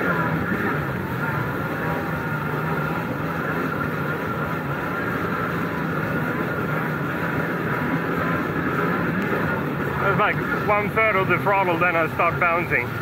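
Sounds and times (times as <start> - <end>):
jet ski engine running: 0.0 - 13.0
water rushing along hull: 0.0 - 13.0.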